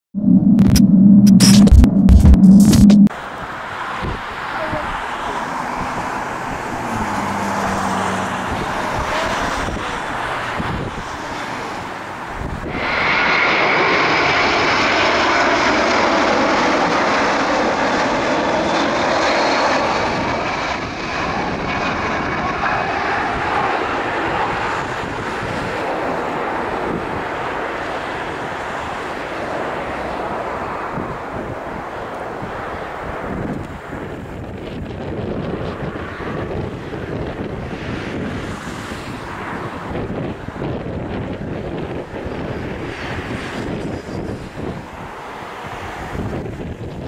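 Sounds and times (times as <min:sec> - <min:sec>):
jet engine roar with whine: 0:00.2 - 0:47.0.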